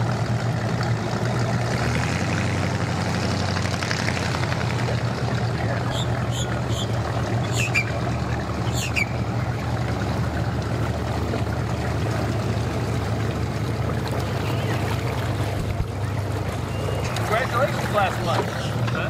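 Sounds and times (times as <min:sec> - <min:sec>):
outboard motor idling: 0:00.0 - 0:19.0.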